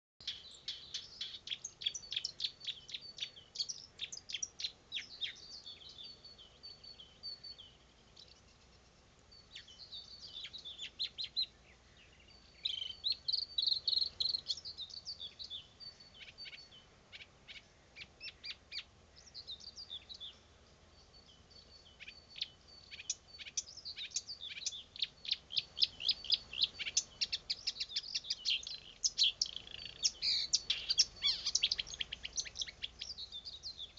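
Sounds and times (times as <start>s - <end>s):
nightingale singing: 0.2s - 33.9s.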